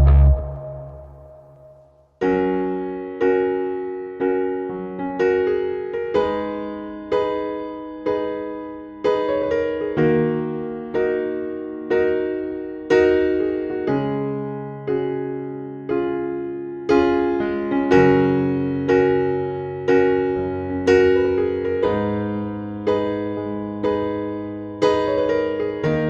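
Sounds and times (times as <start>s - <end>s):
soft piano chords: 0.0s - 26.0s.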